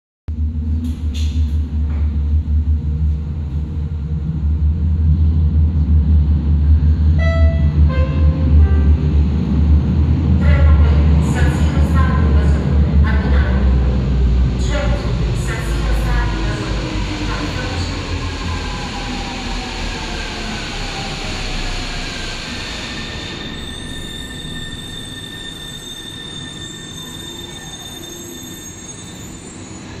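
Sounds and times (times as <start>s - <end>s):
train rumble in tunnel: 0.3s - 30.0s.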